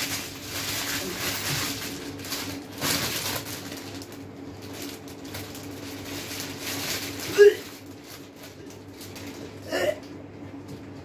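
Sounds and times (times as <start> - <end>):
plastic bag crinkling: 0.0 - 10.1
steady low hum: 0.0 - 11.0.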